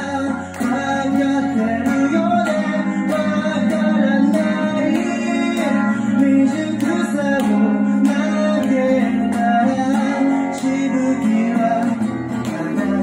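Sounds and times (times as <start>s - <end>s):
acoustic guitar strumming: 0.0s - 13.0s
man singing into microphone: 0.0s - 13.0s.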